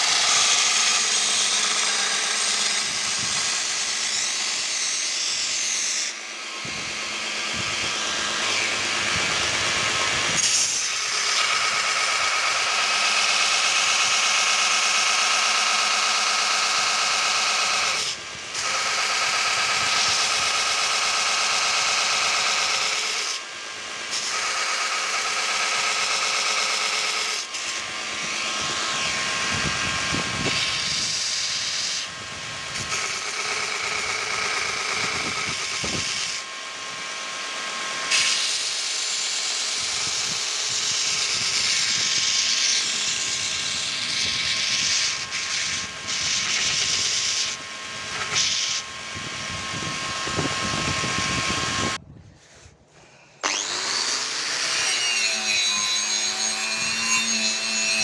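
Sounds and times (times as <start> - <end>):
belt grinder grinding steel: 0.0 - 52.0, 53.4 - 58.0.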